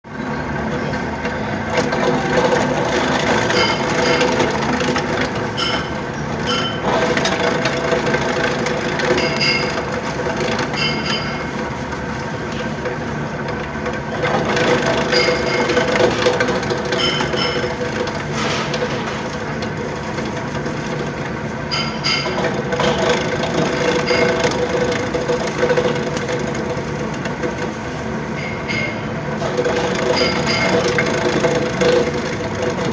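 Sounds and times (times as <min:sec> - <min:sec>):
machine rattles and clatters: 0:00.1 - 0:32.9
slicing machine motor hum: 0:00.1 - 0:32.9.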